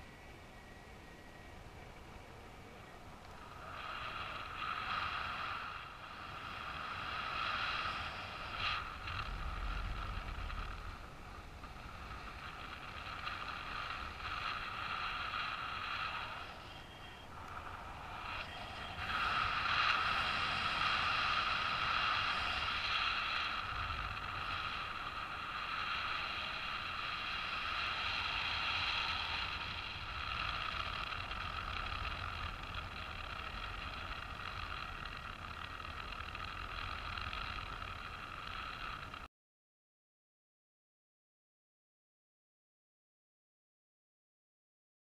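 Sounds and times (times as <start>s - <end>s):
wind rushing over microphone: 0.0s - 39.3s.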